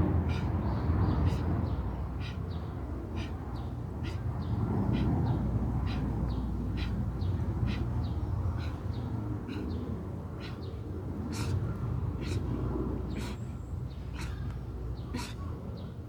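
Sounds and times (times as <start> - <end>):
steady low rumble: 0.0 - 16.0
birds chirping: 0.1 - 16.0.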